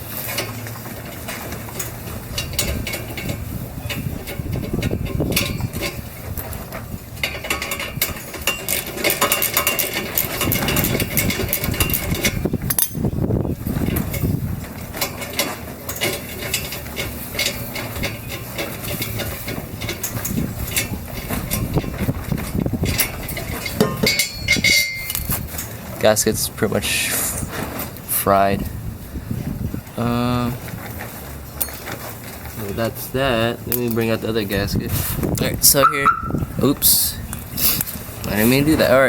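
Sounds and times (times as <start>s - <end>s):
metal clanking: 0.0s - 39.0s.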